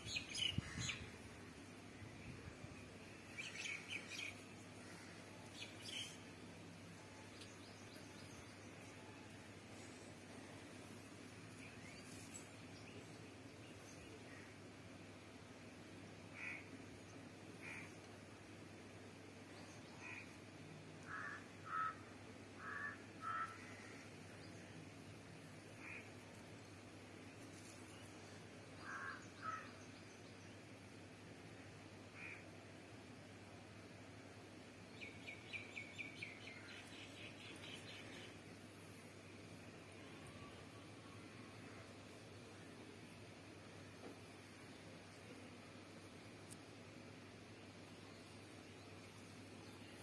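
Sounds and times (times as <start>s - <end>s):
faint steady background: 0.0s - 50.0s
faint steady hum: 0.0s - 50.0s.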